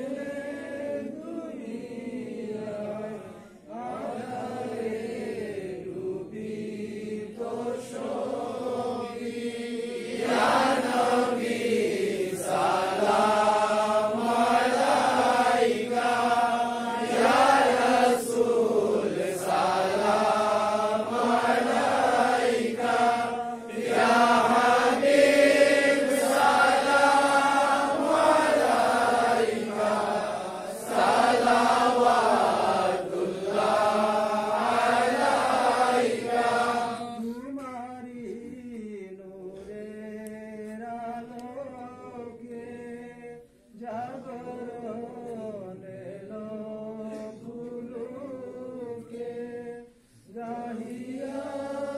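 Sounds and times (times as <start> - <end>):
melodic vocal chant: 0.0 - 51.9.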